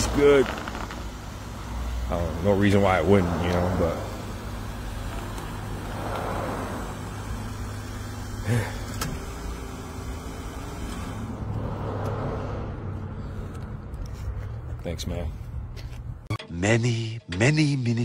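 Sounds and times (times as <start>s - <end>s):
van engine humming: 0.0s - 16.3s.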